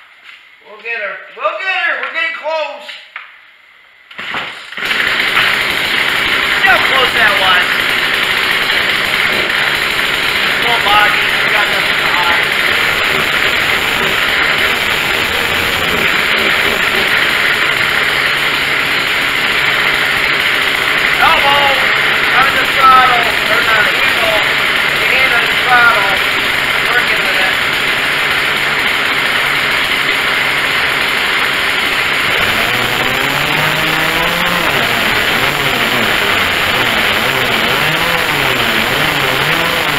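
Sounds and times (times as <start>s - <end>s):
chainsaw engine running: 4.2s - 39.9s.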